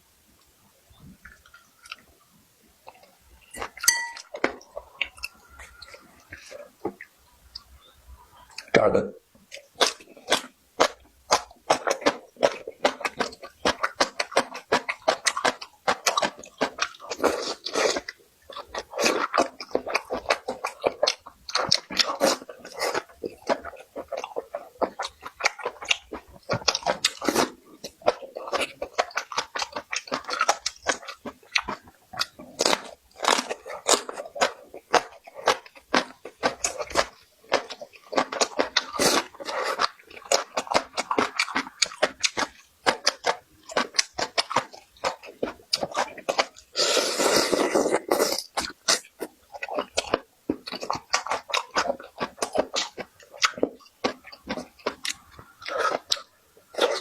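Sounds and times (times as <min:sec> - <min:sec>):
person chewing: 0:01.0 - 0:02.1, 0:02.8 - 0:07.8, 0:09.4 - 0:57.0.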